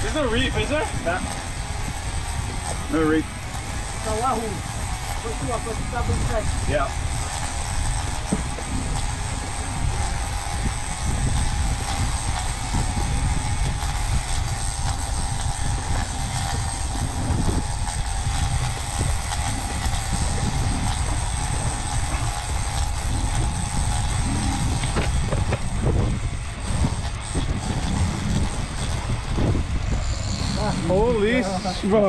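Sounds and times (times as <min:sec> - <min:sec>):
boat moving on water: 0:00.0 - 0:32.0
outboard motor running: 0:00.0 - 0:32.0.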